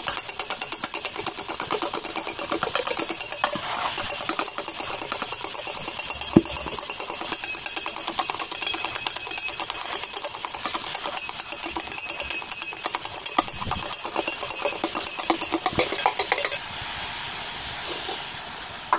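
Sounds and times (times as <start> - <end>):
electric hand mixer running: 0.0 - 16.6.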